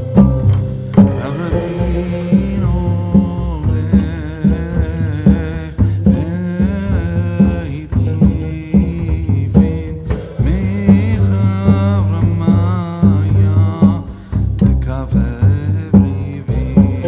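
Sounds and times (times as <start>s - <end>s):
background music with beat: 0.0s - 17.0s.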